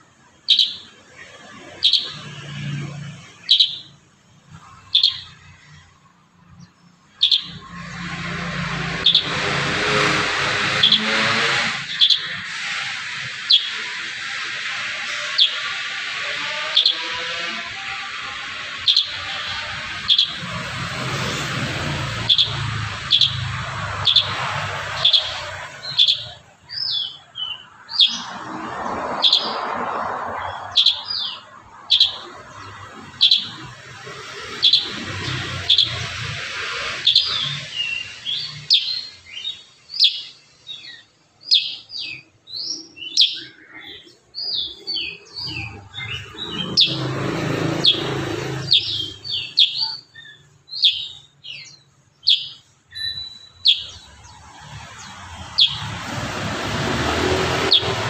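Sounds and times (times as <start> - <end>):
bird chirping and chattering: 0.2 - 58.0.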